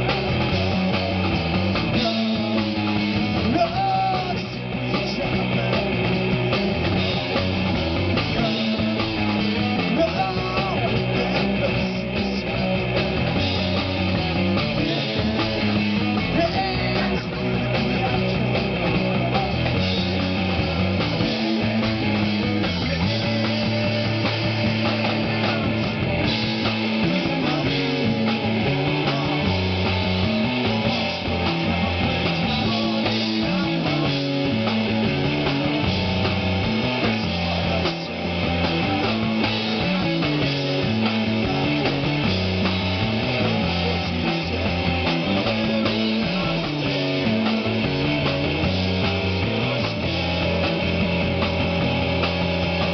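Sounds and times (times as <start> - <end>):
punk rock band playing live: 0.0 - 52.9.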